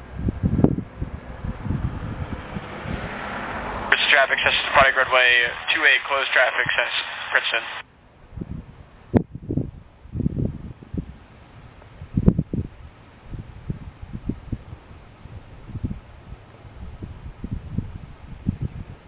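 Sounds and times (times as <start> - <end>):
crickets chirping: 0.0 - 4.3, 7.1 - 19.0.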